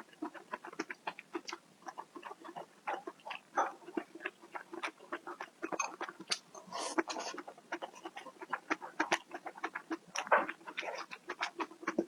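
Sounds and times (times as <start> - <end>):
person chewing: 0.2 - 12.0
slurping and smacking: 0.2 - 12.0.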